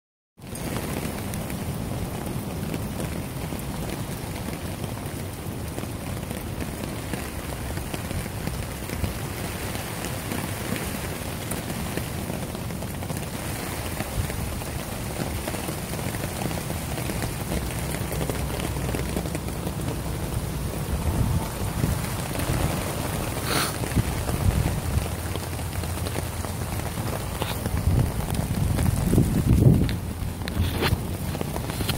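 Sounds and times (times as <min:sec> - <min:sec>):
rain pattering on tarp: 0:00.4 - 0:31.9.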